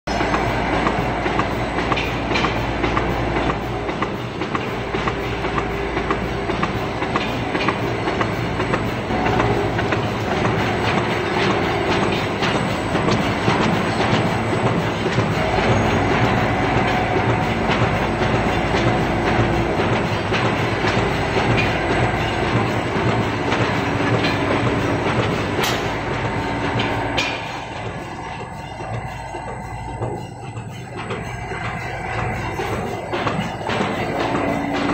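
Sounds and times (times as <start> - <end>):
punching machine clattering: 0.1 - 34.9.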